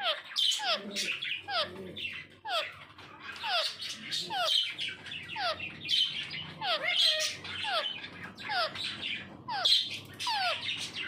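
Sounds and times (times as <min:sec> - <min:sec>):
parakeets chirping: 0:00.0 - 0:11.0.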